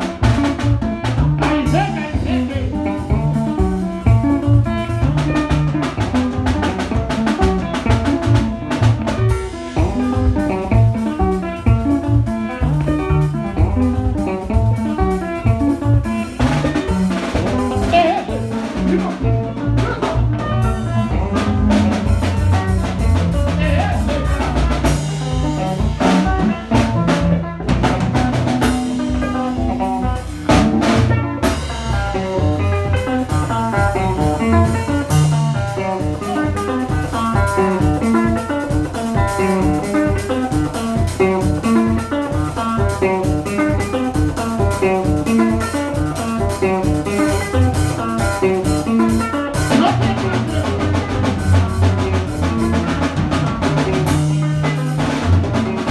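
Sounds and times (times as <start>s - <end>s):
drum kit with cymbals: 0.0s - 55.9s
electric bass: 0.0s - 55.9s
electric guitar: 0.0s - 55.9s.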